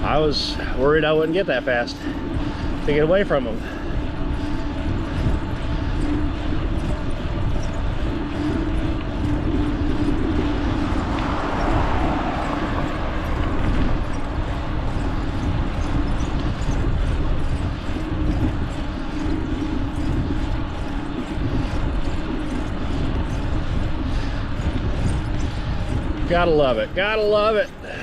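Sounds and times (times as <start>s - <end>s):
bicycle tyres rolling on road: 0.0s - 28.0s
wind rushing over microphone: 0.0s - 28.0s.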